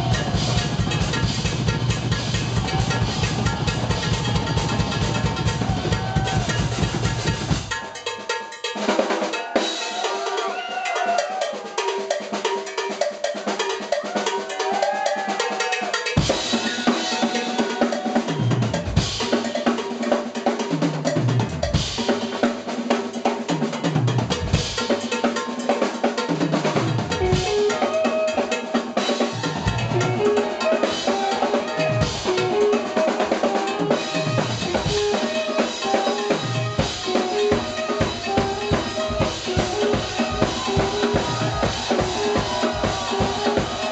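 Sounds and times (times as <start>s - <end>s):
drum kit: 0.0s - 43.9s
jazz fusion band playing: 0.0s - 43.9s.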